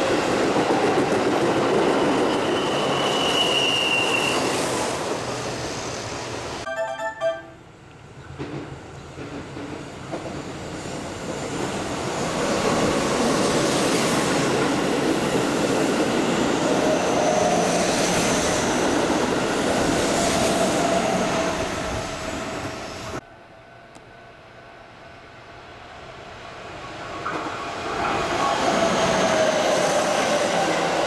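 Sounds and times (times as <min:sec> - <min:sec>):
electric train passing at speed: 0:00.0 - 0:06.8, 0:07.7 - 0:31.0.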